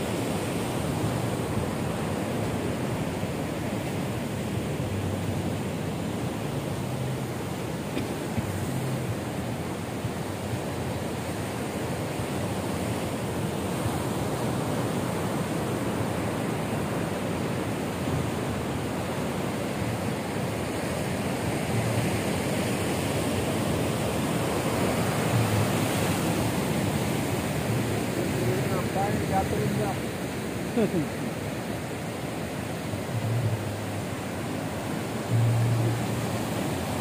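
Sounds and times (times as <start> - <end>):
sea surf breaking: 0.0 - 37.0.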